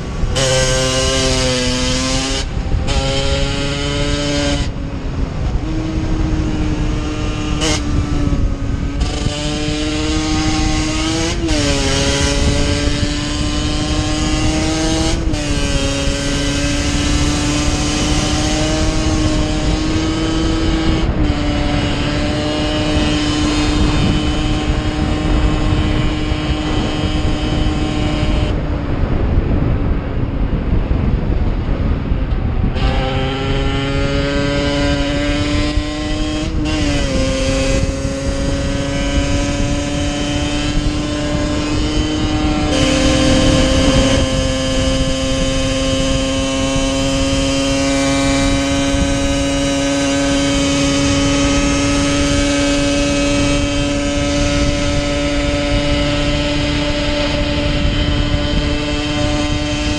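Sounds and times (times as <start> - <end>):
motorbike engine running: 0.0 - 59.9.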